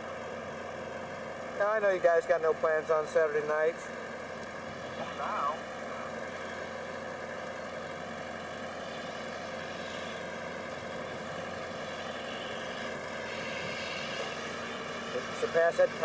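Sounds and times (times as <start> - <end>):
engine droning hum: 0.0 - 16.0.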